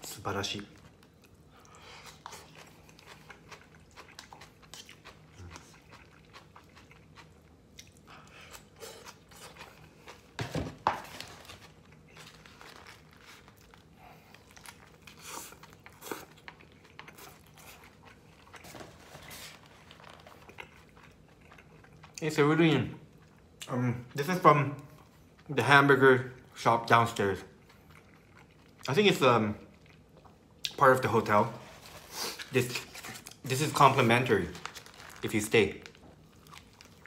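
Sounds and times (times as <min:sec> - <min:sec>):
chewing and crunching coleslaw: 0:00.3 - 0:37.0.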